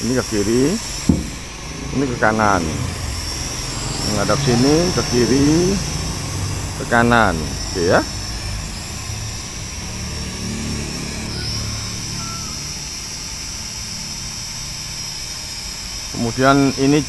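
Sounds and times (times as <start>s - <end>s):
drone hovering with high whine: 0.0s - 17.0s.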